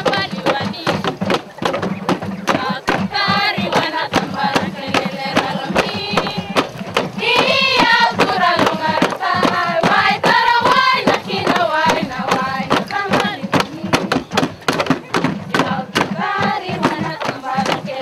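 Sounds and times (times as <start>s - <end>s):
women singing in unison: 0.0s - 1.1s, 2.5s - 14.5s, 15.5s - 18.0s
steady percussive beat: 0.0s - 18.0s.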